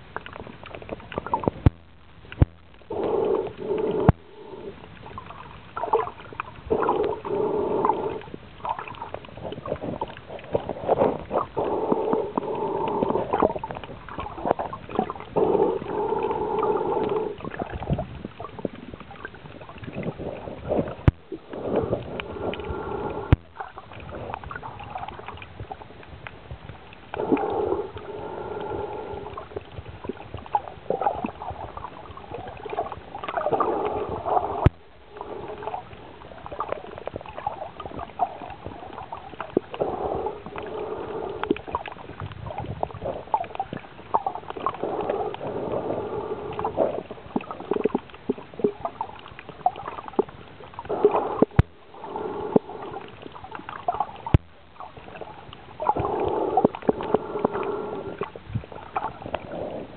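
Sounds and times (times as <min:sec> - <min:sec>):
bubbling and gurgling: 0:00.0 - 0:59.9
underwater water noise: 0:00.0 - 0:59.9.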